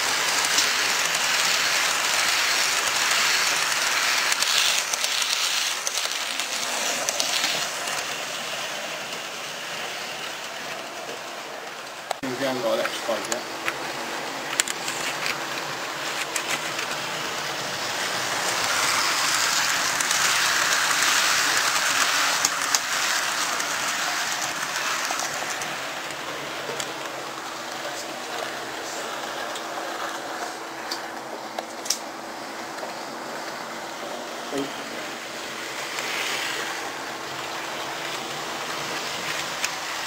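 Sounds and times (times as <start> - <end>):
model trains whirring and rattling: 0.0 - 40.0.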